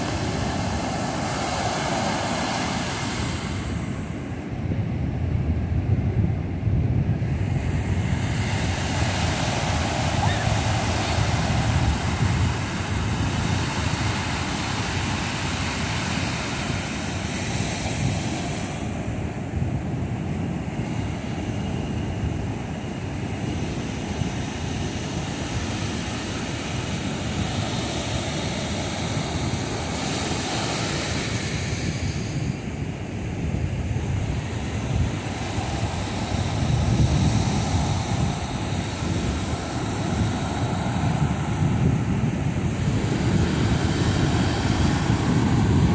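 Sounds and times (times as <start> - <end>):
ocean surf breaking: 0.0 - 4.7, 7.2 - 45.9
wind rumbling on microphone: 0.0 - 45.9.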